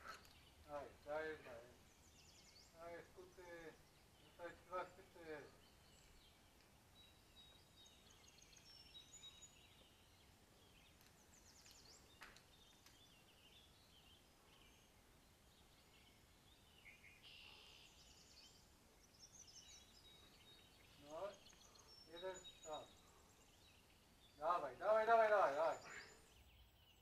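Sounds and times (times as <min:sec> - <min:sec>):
faint birdsong chirps and trills: 0:00.0 - 0:27.0.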